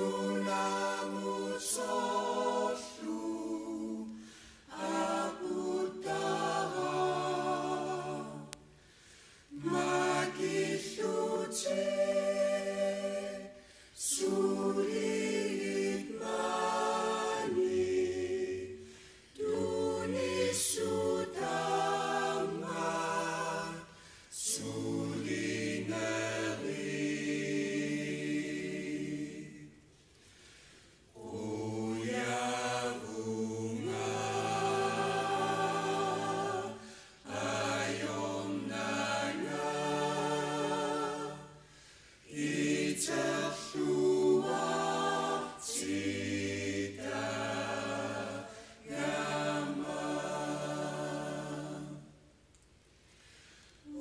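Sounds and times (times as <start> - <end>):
choir singing unaccompanied: 0.0 - 8.8, 9.5 - 52.3.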